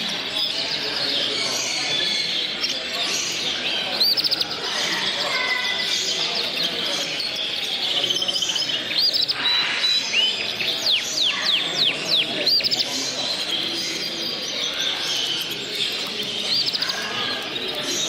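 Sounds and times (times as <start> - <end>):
songbirds chirping and singing: 0.0 - 18.0.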